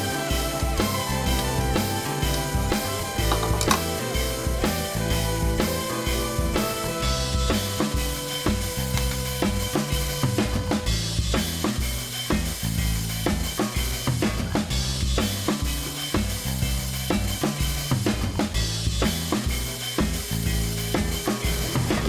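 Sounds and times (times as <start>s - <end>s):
bass line: 0.0s - 22.0s
drum kit beat: 0.0s - 22.0s.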